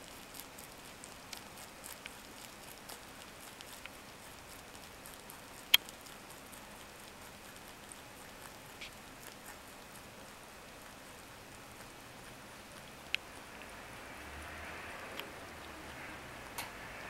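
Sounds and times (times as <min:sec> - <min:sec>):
rabbit chewing crunching: 0:00.0 - 0:17.0.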